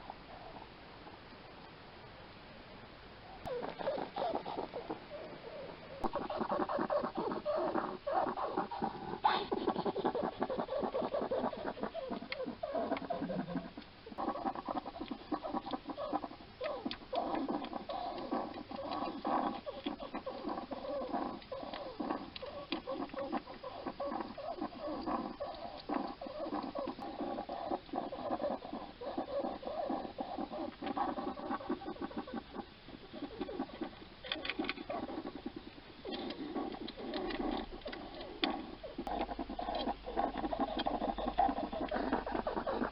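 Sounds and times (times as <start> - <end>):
hedgehog chewing: 3.4 - 42.9
hedgehog wheezy breathing: 3.4 - 42.9.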